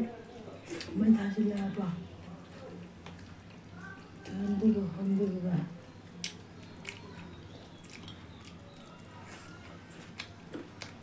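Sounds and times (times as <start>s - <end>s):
fingers mixing food on plates: 0.0s - 11.0s.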